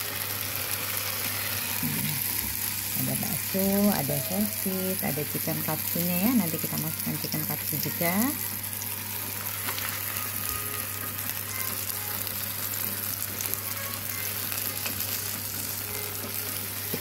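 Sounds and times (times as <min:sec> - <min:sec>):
sausage and onion sizzling on griddle: 0:00.0 - 0:17.0.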